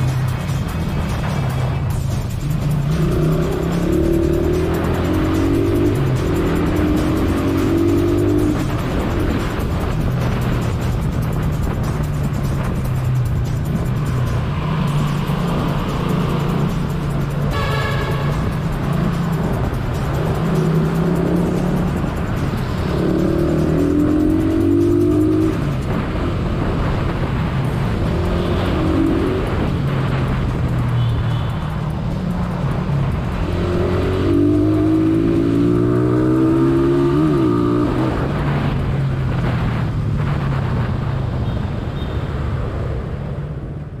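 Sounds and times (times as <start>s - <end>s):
motorcycle engine accelerating: 0.0s - 41.3s
wind and road noise: 0.0s - 44.0s.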